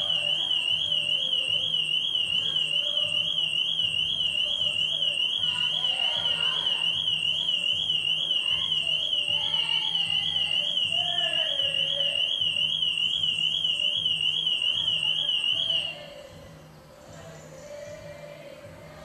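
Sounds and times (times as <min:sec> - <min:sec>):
car alarm warbling: 0:00.0 - 0:16.1.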